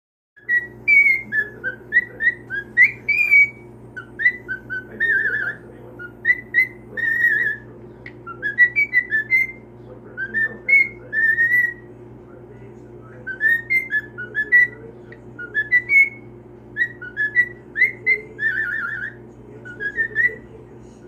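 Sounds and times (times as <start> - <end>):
cockatiel whistling: 0.4 - 11.9, 13.2 - 20.5
steady low hum: 0.4 - 21.0.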